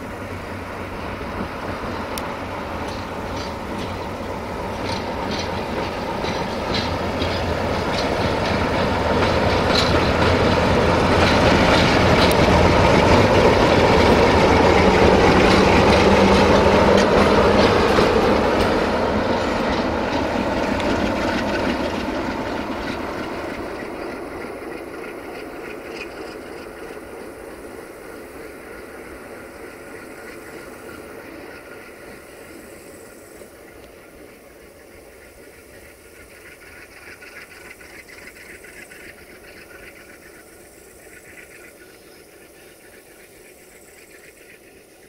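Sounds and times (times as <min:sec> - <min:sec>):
diesel locomotive engine: 0:00.0 - 0:45.0
wheels clacking over rail joints: 0:00.0 - 0:45.0.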